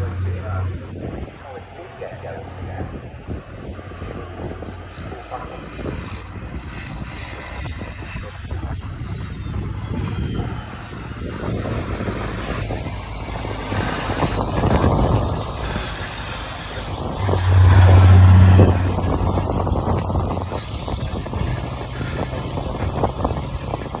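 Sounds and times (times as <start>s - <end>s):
truck diesel engines passing: 0.0s - 24.0s.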